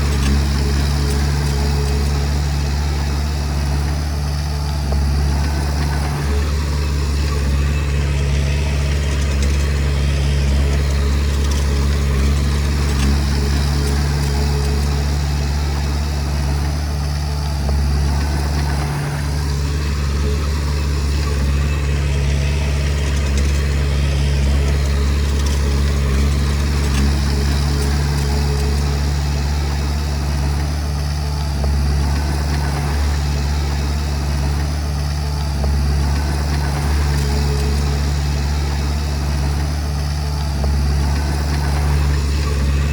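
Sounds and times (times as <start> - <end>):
bulldozer diesel engine droning: 0.0 - 42.9.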